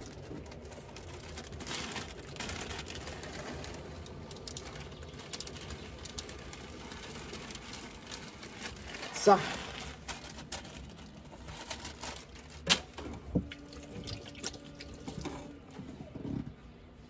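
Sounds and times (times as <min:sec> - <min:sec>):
plastic bag crinkling: 0:00.0 - 0:16.4
low steady hum: 0:00.0 - 0:17.0.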